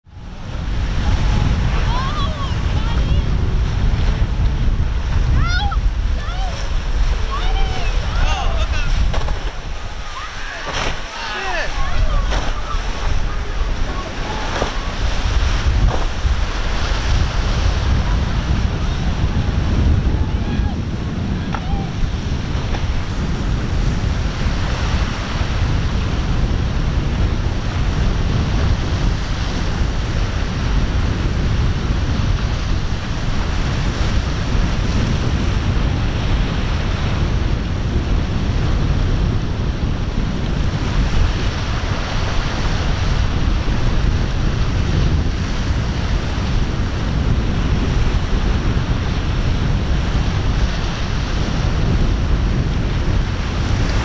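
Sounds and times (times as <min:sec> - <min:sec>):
surf breaking and rolling: 0:00.0 - 0:54.0
wind buffeting the microphone: 0:00.0 - 0:54.0.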